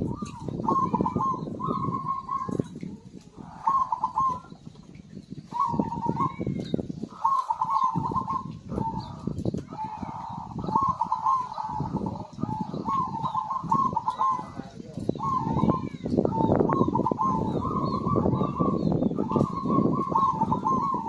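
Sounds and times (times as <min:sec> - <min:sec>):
dove cooing trilled song: 0:00.0 - 0:21.0.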